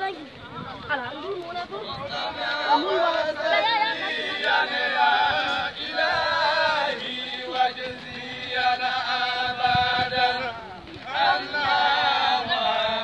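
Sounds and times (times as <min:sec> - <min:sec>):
crowd chanting in unison: 0:01.8 - 0:13.0.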